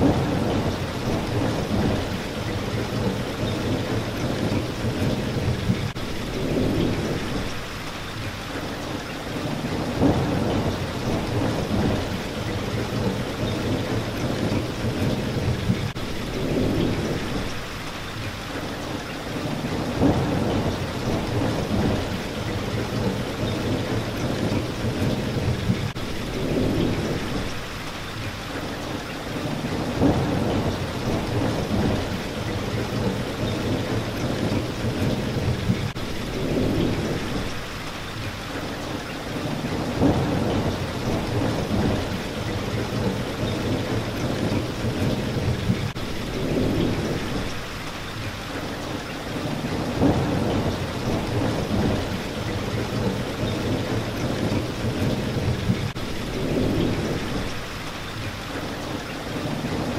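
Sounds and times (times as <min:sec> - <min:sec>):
low thunder rumbling: 0:00.0 - 0:07.8, 0:09.4 - 0:17.7, 0:19.3 - 0:27.8, 0:29.4 - 0:37.8, 0:39.3 - 0:47.8, 0:49.3 - 0:57.8
rain hitting a window: 0:00.0 - 0:59.9.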